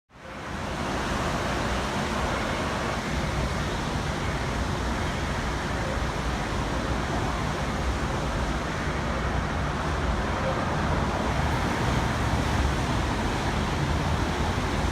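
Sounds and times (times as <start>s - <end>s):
subway car rumble and hiss: 0.1s - 14.9s.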